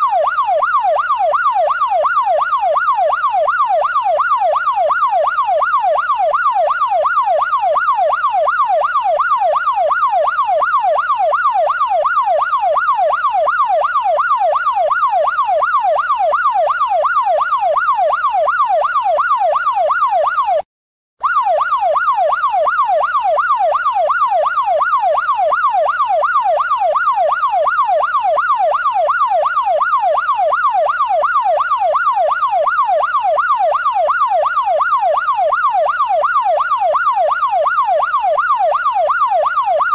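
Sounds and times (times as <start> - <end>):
police siren yelping: 0.0 - 20.6, 21.2 - 39.9.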